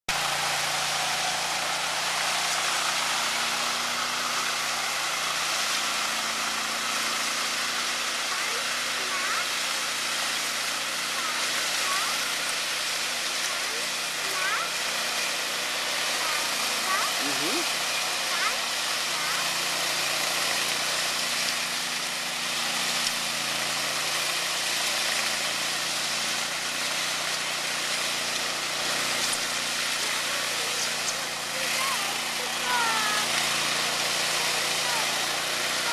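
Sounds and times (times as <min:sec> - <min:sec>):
power trowel engine hum: 0:00.1 - 0:35.9.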